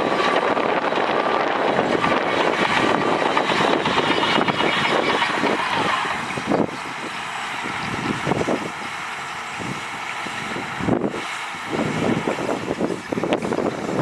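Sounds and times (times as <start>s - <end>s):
heavy diesel machinery engine: 0.0s - 14.0s.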